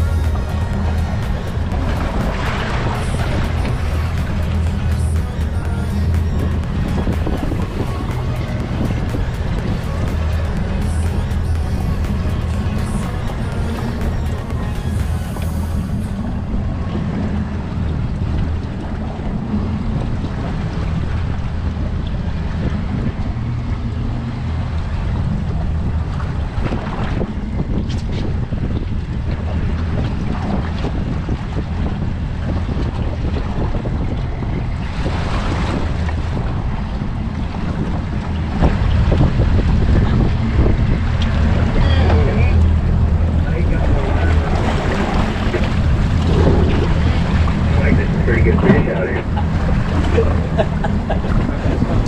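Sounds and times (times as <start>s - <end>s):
water splashes: 0.0s - 52.0s
waves washing against boat: 0.0s - 52.0s
wind buffeting microphone: 0.0s - 52.0s.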